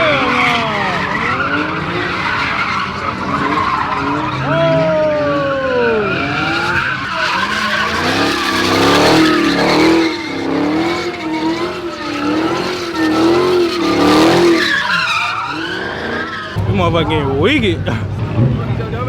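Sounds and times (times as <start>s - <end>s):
tyres squealing: 0.0s - 18.4s
engine revving hard: 0.0s - 19.0s.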